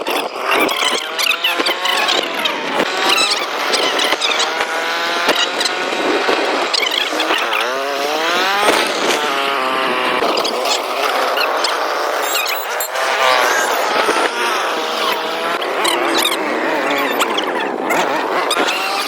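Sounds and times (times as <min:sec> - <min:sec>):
motor engines revving: 0:00.0 - 0:19.0.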